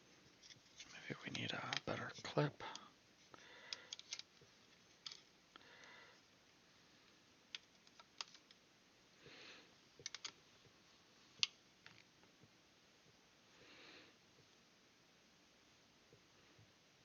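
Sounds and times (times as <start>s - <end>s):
soft rustle: 0.0s - 14.8s.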